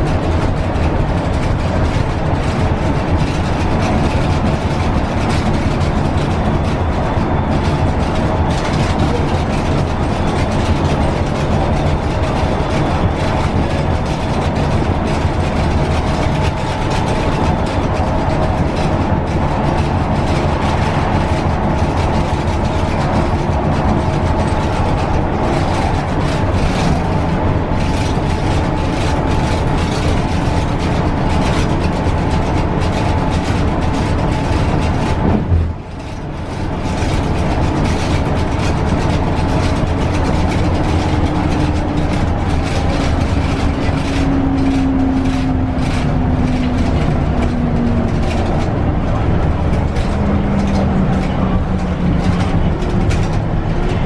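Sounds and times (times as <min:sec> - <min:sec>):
diesel engine hum: 0:00.0 - 0:54.0.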